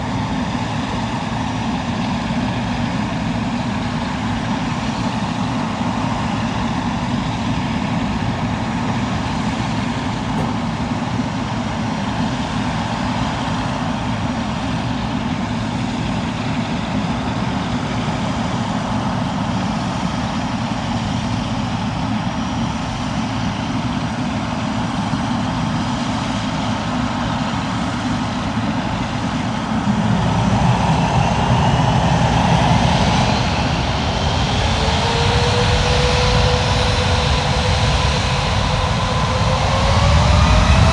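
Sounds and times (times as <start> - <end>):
jet engine rising whine: 0.0 - 40.9
jet engines rushing: 0.0 - 40.9.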